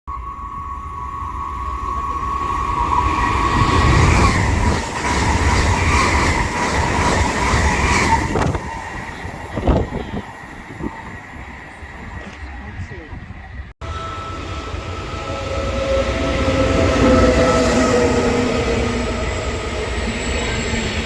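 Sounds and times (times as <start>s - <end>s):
train passing at speed: 0.1s - 21.0s.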